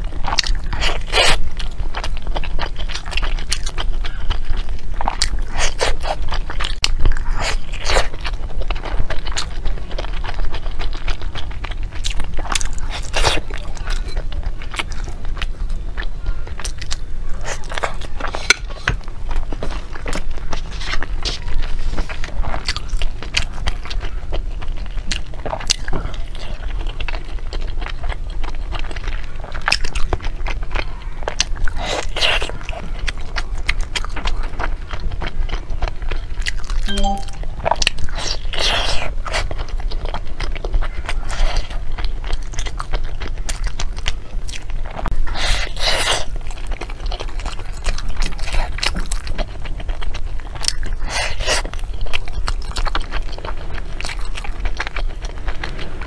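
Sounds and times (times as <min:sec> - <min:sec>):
crunching and chewing: 0:00.0 - 0:56.0.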